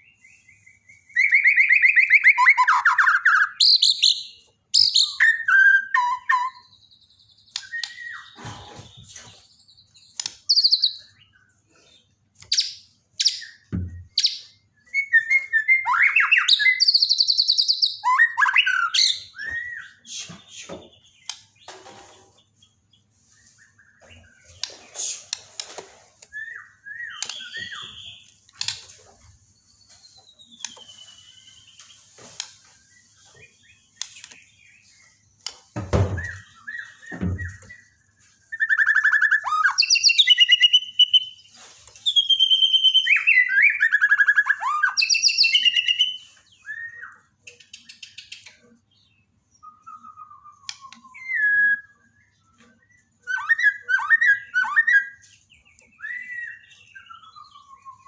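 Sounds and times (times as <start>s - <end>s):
bird singing whistles and trills: 0.0s - 11.9s, 12.5s - 21.6s, 26.2s - 58.0s.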